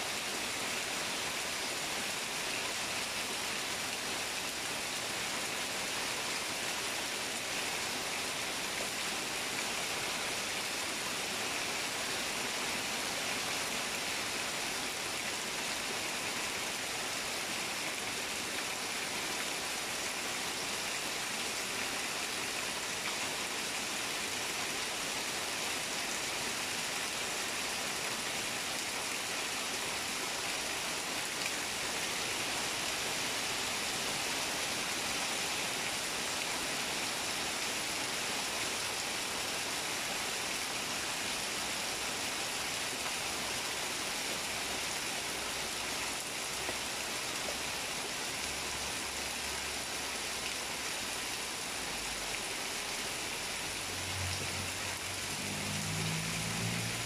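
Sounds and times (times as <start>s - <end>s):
rain on leaves and roof: 0.0s - 57.0s.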